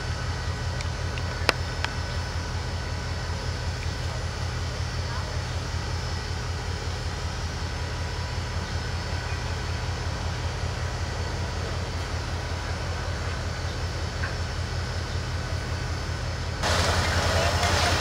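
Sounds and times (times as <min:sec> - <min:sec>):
locomotive idling: 0:00.0 - 0:18.0.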